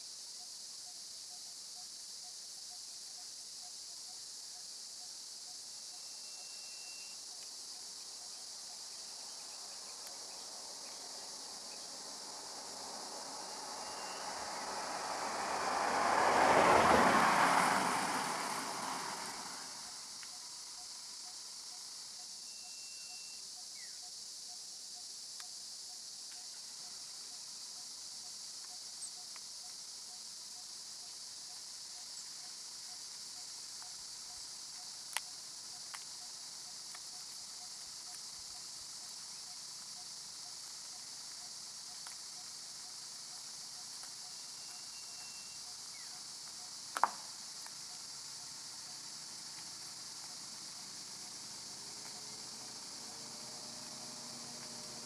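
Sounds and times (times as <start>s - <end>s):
high insect chorus: 0.0s - 55.0s.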